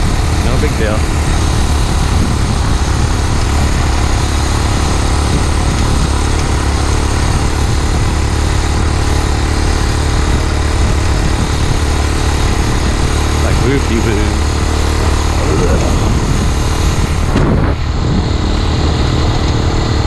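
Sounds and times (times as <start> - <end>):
heavy low rumble: 0.0 - 20.0
small engine running steadily: 0.0 - 20.0.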